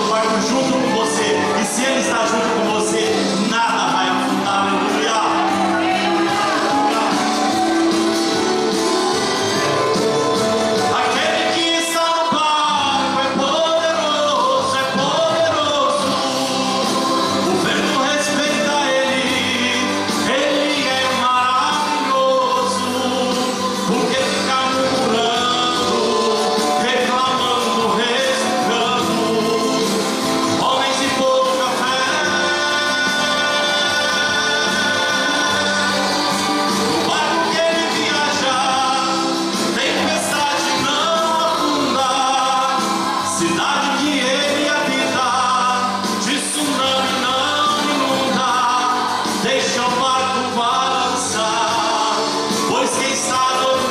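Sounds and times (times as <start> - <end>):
instrumental backing music: 0.0 - 53.9
man singing into microphone: 0.0 - 53.9.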